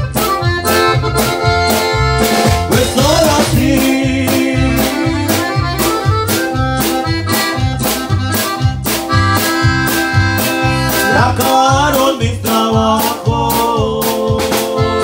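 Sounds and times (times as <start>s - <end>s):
accordion melody: 0.0s - 15.0s
drums: 0.0s - 15.0s
keyboard: 0.0s - 15.0s.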